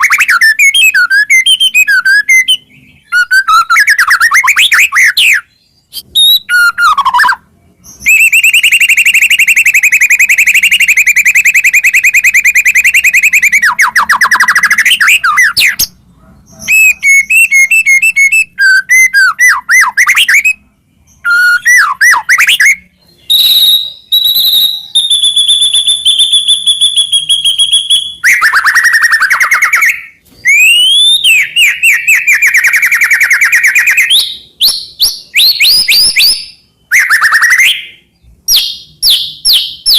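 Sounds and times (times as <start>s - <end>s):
bird singing with trills and whistles: 0.0s - 39.9s.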